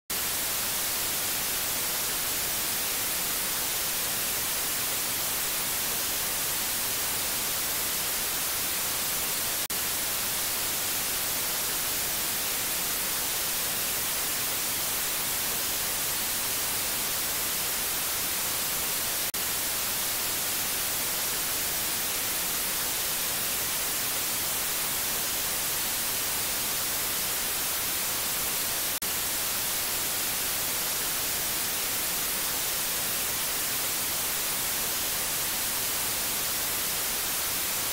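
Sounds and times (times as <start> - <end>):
white noise hiss: 0.1 - 37.9.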